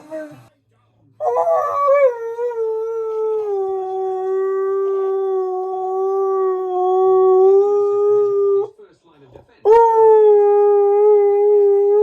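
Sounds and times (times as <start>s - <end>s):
dog howling: 1.2s - 8.7s, 9.7s - 12.0s.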